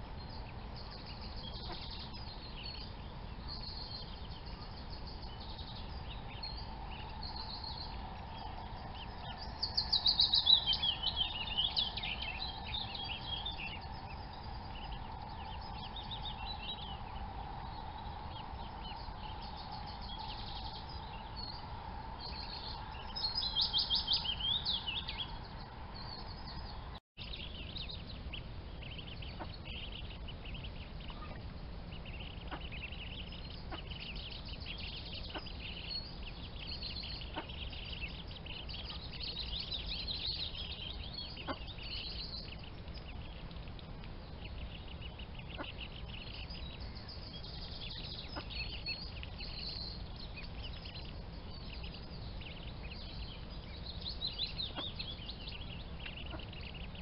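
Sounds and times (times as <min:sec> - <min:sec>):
ducklings peeping: 0:00.0 - 0:57.0
steady low rumble: 0:00.0 - 0:57.0.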